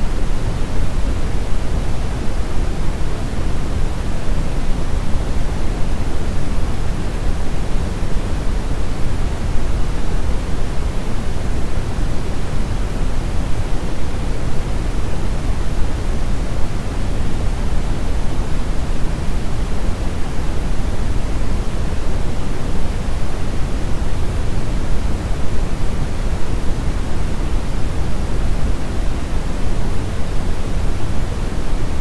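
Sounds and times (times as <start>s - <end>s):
brown noise hiss: 0.0s - 32.0s.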